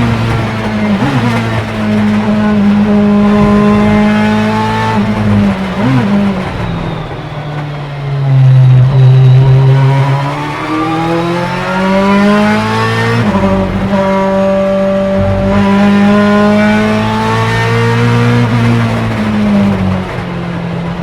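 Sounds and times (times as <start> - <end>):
racing engine accelerating: 0.0 - 21.0.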